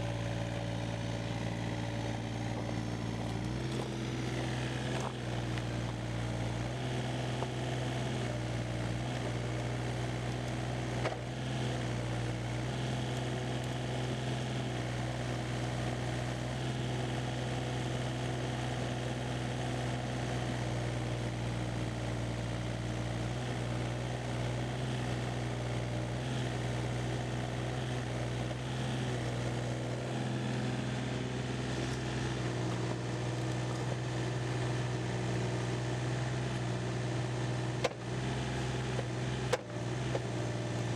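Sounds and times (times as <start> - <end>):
excavator diesel engine running: 0.0 - 17.4, 18.3 - 40.9.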